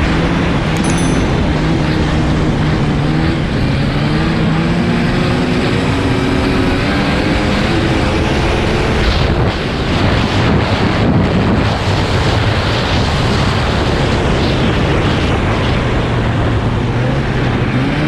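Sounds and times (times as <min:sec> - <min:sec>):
rush of wind and track: 0:00.0 - 0:18.0
snowmobile engine at speed: 0:02.7 - 0:18.0.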